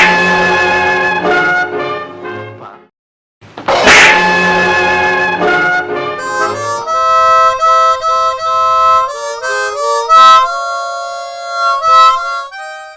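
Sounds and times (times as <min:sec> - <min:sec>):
harmonica playing slow chords: 0:00.0 - 0:01.8, 0:04.0 - 0:12.9.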